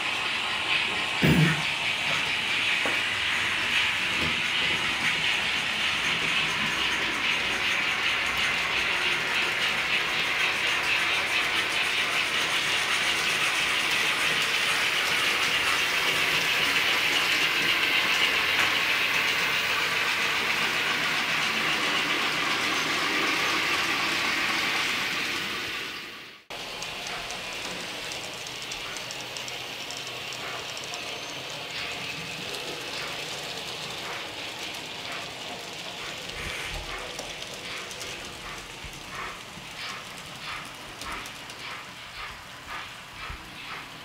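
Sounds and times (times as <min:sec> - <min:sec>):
model train motors whirring: 0:00.0 - 0:44.0
wheels rolling over rails: 0:00.0 - 0:44.0.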